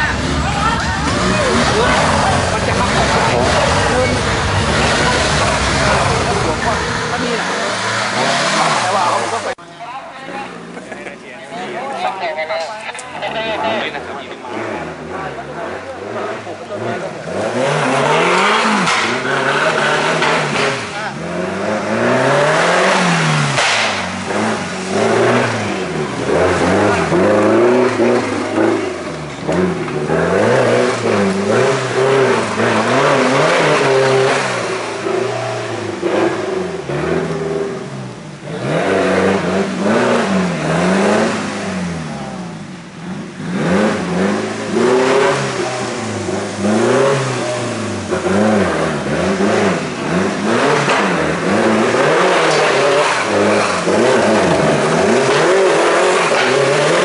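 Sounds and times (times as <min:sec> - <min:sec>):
car engine revving: 0:00.0 - 0:09.6, 0:12.9 - 0:57.0.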